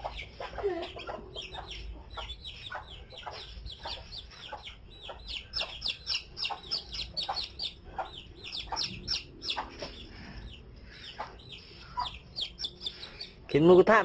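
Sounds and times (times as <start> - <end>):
chick peeping: 0.0 - 14.0.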